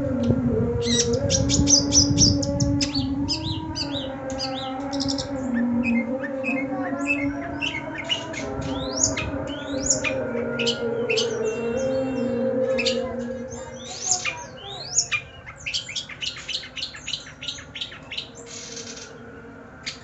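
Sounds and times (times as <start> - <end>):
steady low hum: 0.0 - 20.0
bird singing chirps and whistles: 0.8 - 20.0.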